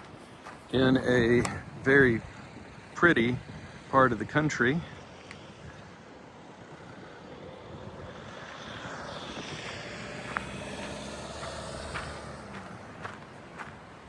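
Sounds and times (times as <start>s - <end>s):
engine drone of passing vehicle: 0.0s - 14.0s.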